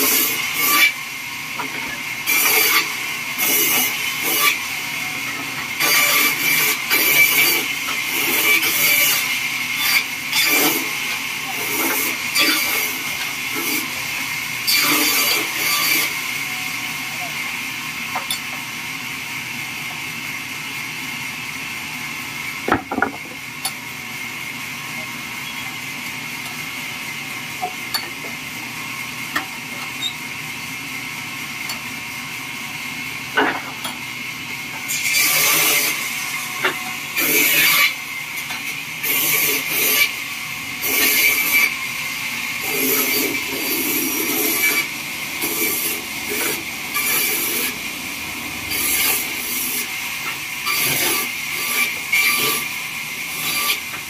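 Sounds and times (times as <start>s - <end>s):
band sawmill humming and whining: 0.0s - 54.0s.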